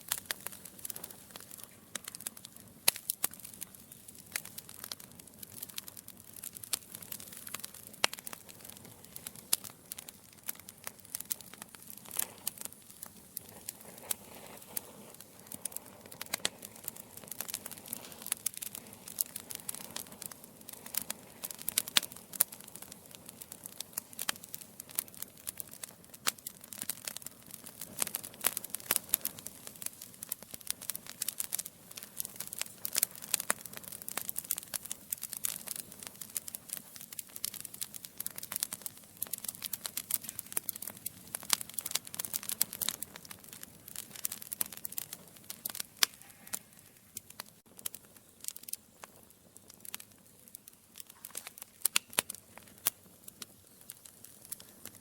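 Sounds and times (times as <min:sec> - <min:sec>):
burning logs crackling: 0:00.0 - 0:55.0.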